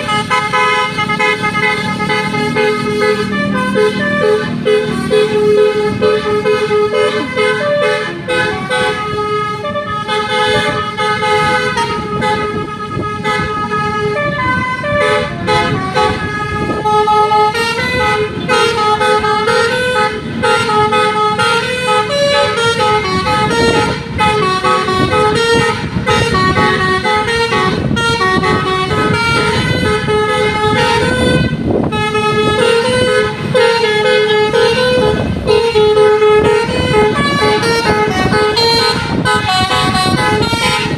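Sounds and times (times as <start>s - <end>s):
multi-tone air horn melody: 0.0s - 40.9s
vehicle rumble on road: 0.0s - 40.9s.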